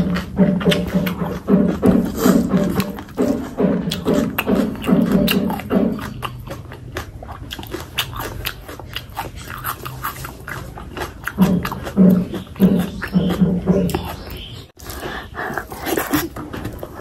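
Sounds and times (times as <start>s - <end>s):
close chewing mouth smacks: 2.2s - 17.0s.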